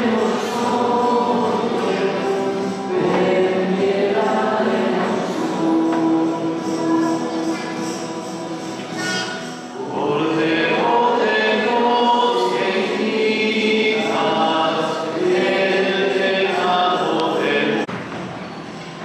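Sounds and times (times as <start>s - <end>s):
choir and congregation singing hymn: 0.0s - 17.9s.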